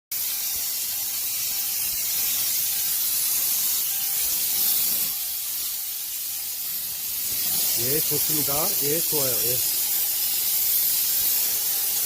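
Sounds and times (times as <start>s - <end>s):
steam cleaner hissing: 0.1s - 12.0s.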